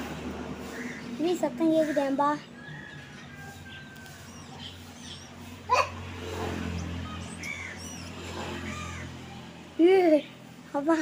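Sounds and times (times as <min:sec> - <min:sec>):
small birds chirping: 0:00.6 - 0:11.0.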